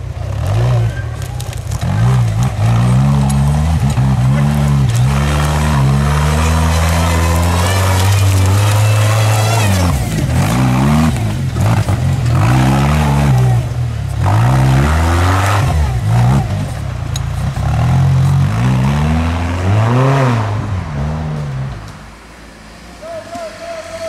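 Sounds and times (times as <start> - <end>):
buggy engine revving: 0.0 - 24.0.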